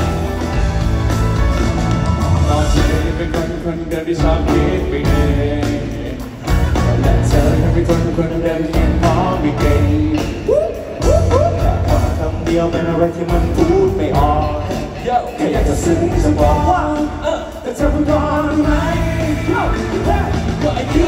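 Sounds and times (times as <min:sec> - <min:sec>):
live pop-rock band playing: 0:00.0 - 0:21.0
man singing lead vocal: 0:02.3 - 0:21.0.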